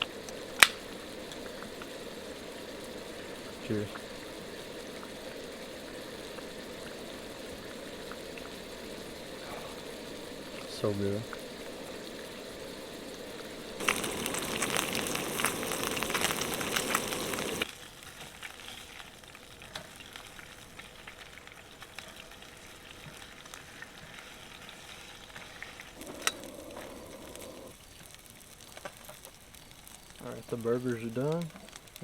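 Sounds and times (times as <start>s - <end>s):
burgers sizzling in oil: 0.0s - 32.0s.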